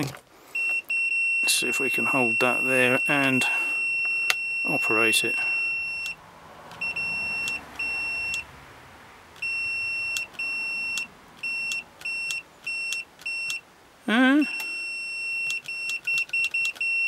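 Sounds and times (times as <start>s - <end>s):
multimeter beeping: 0.6s - 6.2s, 6.8s - 8.5s, 9.4s - 13.6s, 14.3s - 17.0s.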